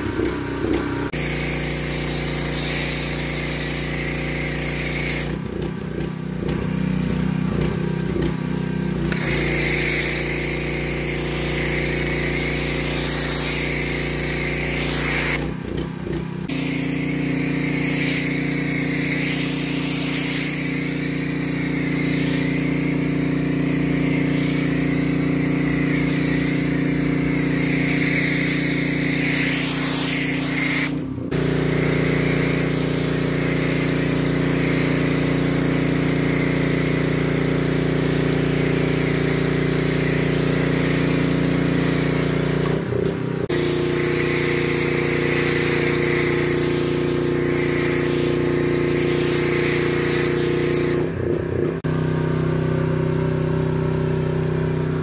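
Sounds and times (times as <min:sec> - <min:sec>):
foam spray hissing: 0:00.0 - 0:06.4, 0:07.4 - 0:51.8
pressure washer engine running: 0:00.0 - 0:55.0.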